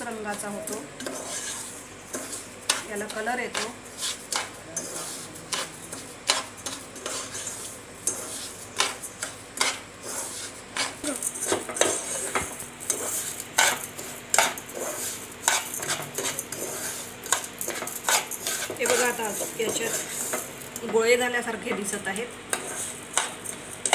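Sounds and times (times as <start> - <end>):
metal spoon scraping saucepan: 0.4 - 2.9, 3.5 - 20.5.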